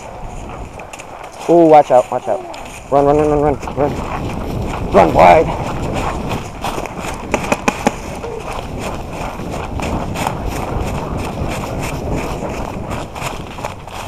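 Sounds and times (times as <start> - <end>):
running footsteps on dry leaves: 0.0 - 14.0.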